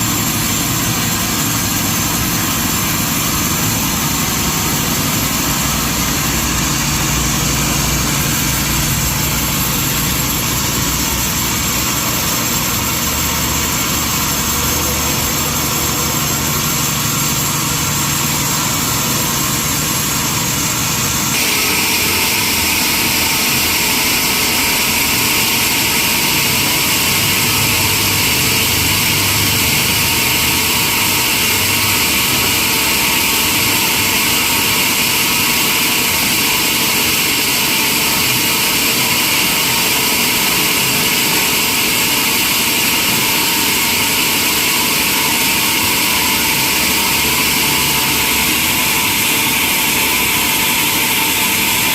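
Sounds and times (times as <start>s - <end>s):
sawmill saw cutting log: 0.0s - 51.9s.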